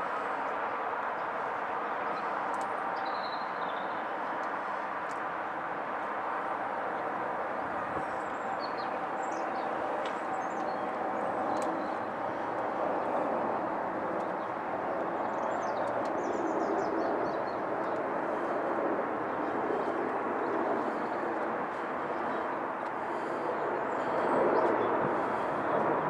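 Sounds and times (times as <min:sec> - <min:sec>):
jet aircraft passing overhead: 0:00.0 - 0:26.0.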